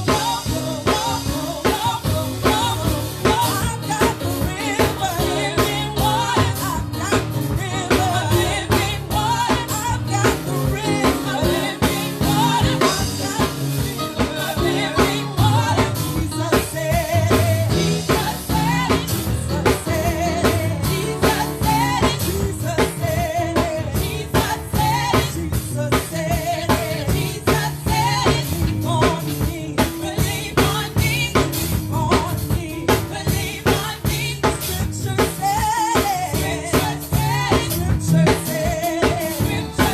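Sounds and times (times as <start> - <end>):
band with drums bass keyboard: 0.0 - 39.9
group singing: 0.0 - 39.9.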